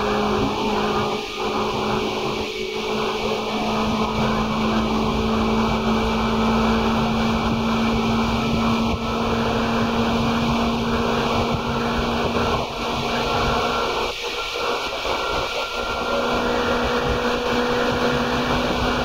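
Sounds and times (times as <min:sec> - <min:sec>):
electric train motor hum: 0:00.0 - 0:19.0
wheels rumbling on rail: 0:00.0 - 0:19.0.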